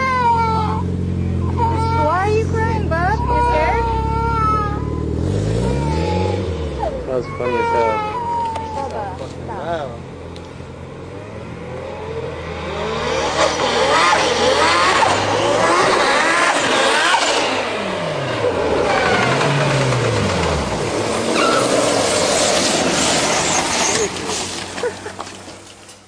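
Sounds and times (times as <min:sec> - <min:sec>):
car engine accelerating: 0:00.0 - 0:25.8.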